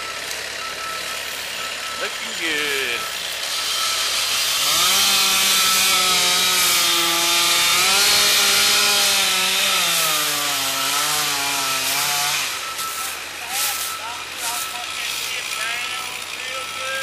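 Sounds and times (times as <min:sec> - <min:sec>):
chainsaw cutting a log: 0:00.0 - 0:17.0.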